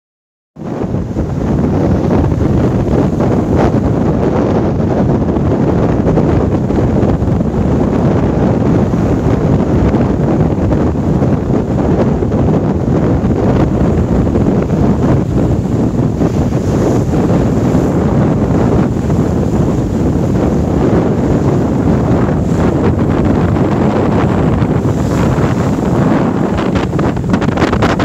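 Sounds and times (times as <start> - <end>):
strong wind buffeting microphone: 0.6 - 28.0
waves washing along hull: 0.6 - 28.0.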